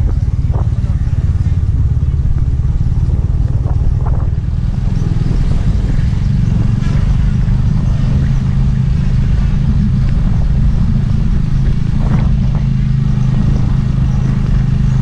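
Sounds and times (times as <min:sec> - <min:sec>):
motorcycle engine low drone: 0:00.0 - 0:15.0.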